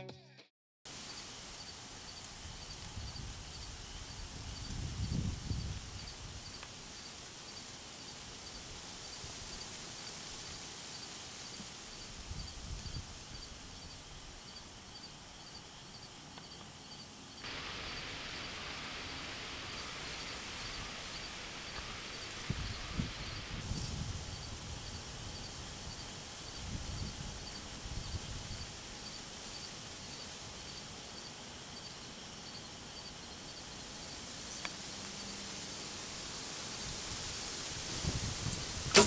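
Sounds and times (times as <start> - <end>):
steady hiss: 0.9 - 39.0.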